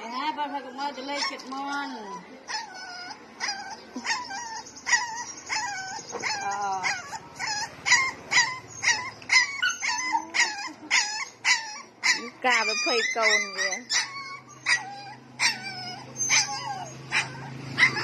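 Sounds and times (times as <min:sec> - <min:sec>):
dog whining and yelping: 0:00.8 - 0:18.0.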